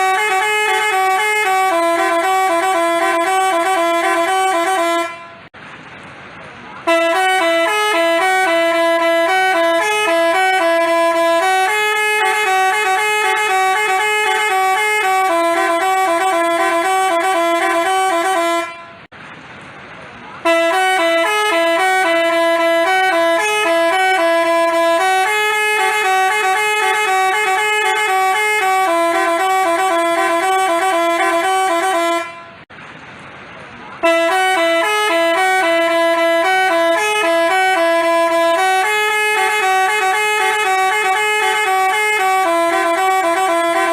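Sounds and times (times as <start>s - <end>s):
multi-tone bus horn tune: 0.0s - 5.6s, 6.8s - 19.1s, 20.4s - 32.7s, 34.0s - 43.9s.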